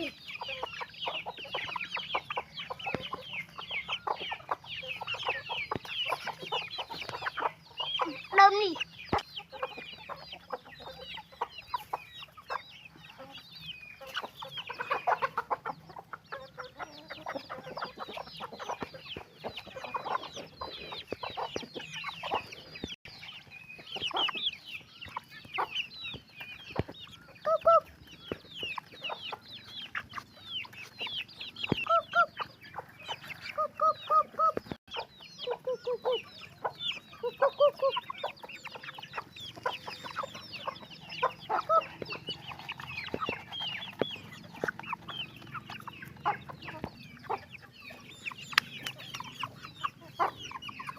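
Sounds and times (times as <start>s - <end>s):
chickens calling: 0.0s - 50.9s
chickens clucking: 0.0s - 50.9s.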